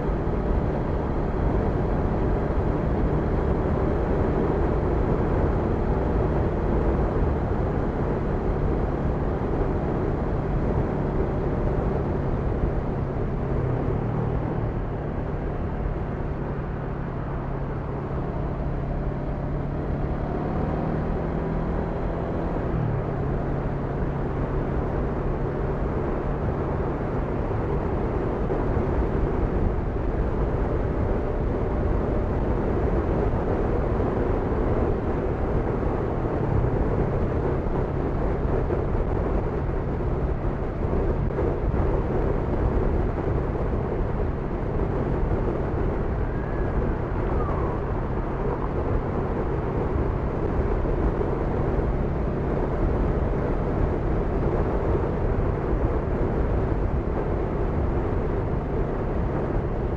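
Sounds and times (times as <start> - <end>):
wind rush: 0.0 - 59.9.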